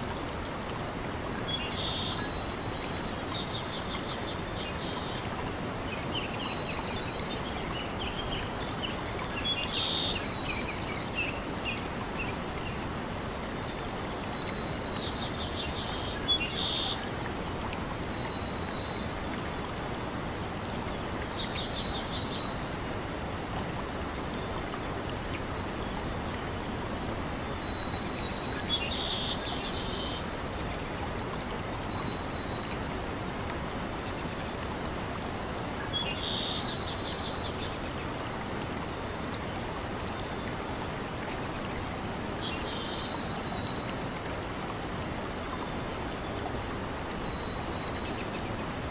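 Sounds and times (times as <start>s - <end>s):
water noise: 0.0s - 48.9s.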